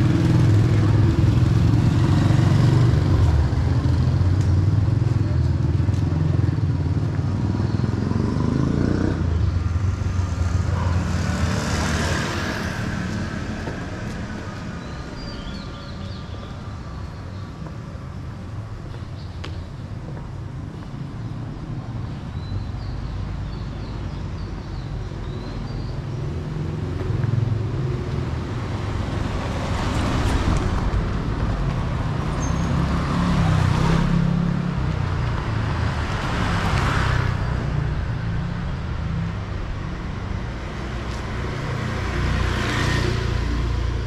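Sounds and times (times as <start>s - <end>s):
traffic rumble: 0.0s - 44.0s
vehicles passing: 0.0s - 44.0s.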